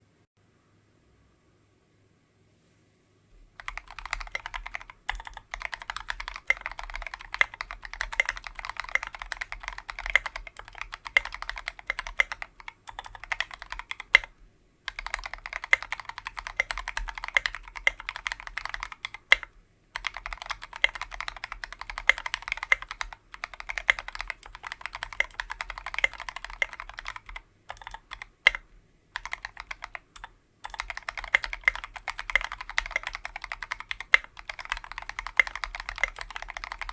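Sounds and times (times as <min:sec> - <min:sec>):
fast typing on keyboard: 0:03.6 - 0:36.9.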